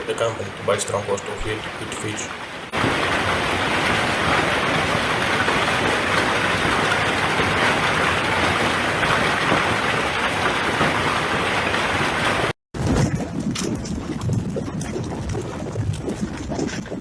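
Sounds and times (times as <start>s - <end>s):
hail and rain pelting: 0.0s - 17.0s.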